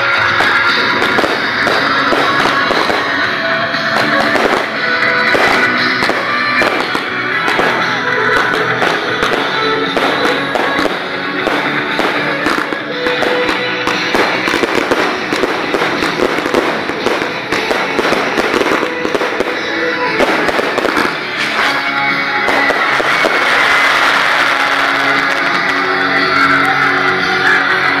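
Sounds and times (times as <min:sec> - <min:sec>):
fireworks crackling and popping: 0:00.0 - 0:28.0
music with held notes: 0:00.0 - 0:28.0.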